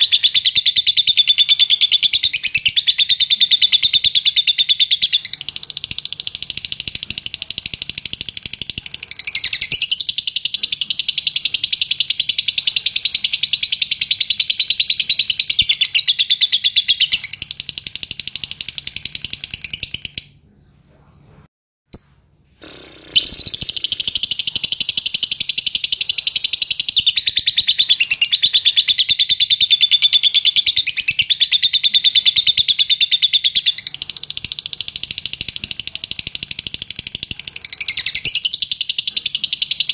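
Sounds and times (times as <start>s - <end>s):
lovebird chattering song: 0.0s - 20.4s, 23.1s - 39.9s.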